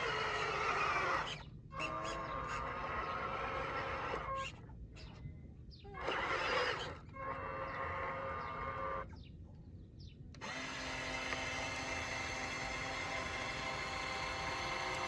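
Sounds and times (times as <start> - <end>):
small electric motors whining: 0.0 - 5.2, 5.9 - 9.2, 10.4 - 15.0.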